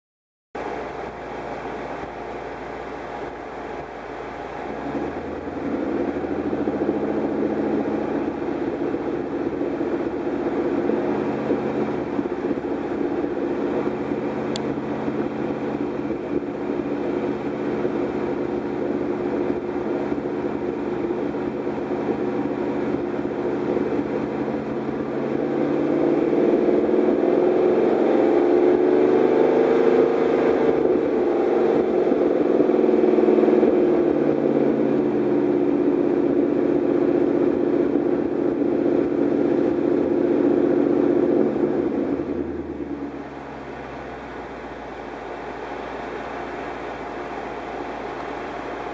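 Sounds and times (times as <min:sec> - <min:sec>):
engine running with misfire: 0:00.6 - 0:48.9.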